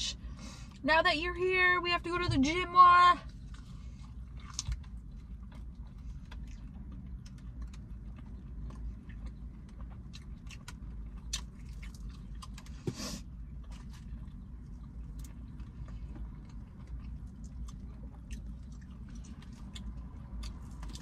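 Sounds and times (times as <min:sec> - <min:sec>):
chewing crunchy fried food: 0:03.2 - 0:21.0.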